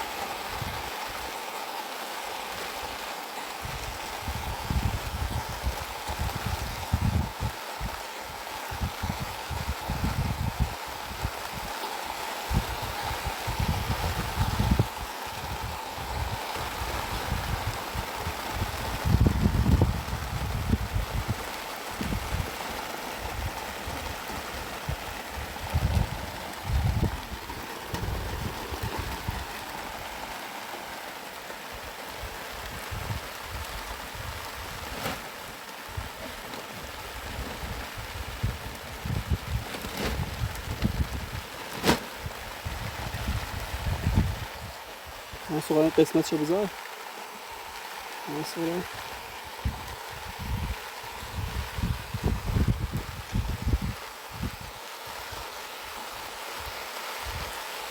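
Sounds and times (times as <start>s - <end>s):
wind rumbling on microphone: 0.0s - 1.4s, 2.8s - 57.9s
rain falling: 0.0s - 57.9s.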